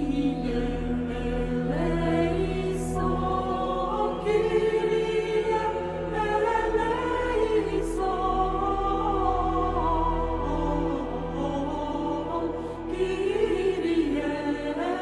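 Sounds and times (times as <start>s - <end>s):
choir singing chant: 0.0s - 15.0s
low drone: 0.0s - 15.0s.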